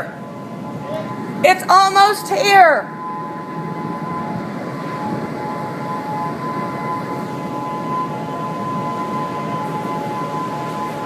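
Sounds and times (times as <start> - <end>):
roaring tornado wind: 0.0 - 11.0
two-tone warning signal: 0.0 - 11.0.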